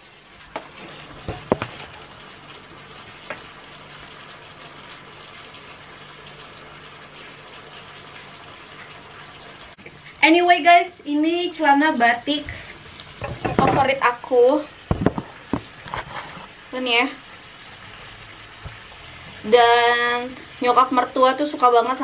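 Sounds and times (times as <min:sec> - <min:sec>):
chicken sizzling in a frying pan: 0:00.0 - 0:22.0.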